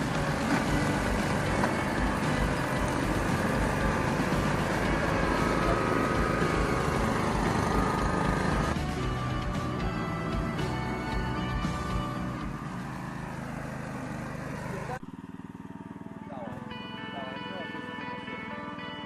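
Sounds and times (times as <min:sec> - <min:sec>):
mower engine running: 0:00.0 - 0:19.0.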